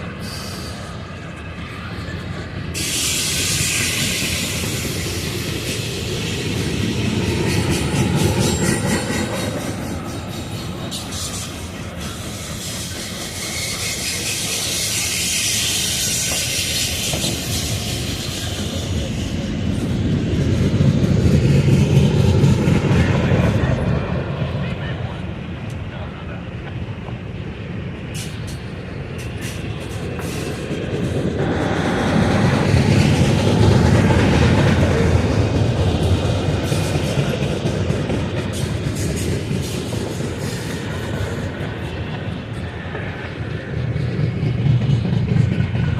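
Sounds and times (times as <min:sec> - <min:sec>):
diesel locomotive engine drone: 0:00.0 - 0:45.9
freight train wheels rumbling: 0:00.0 - 0:45.9.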